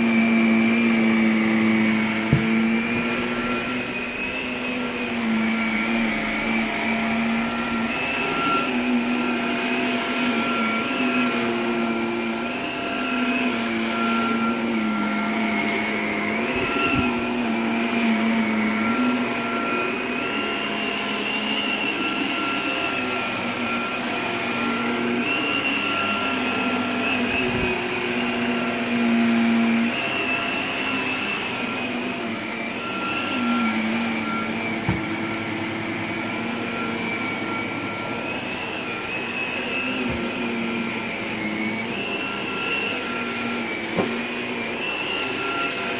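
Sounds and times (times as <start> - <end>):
vacuum cleaner on carpet: 0.0 - 45.9.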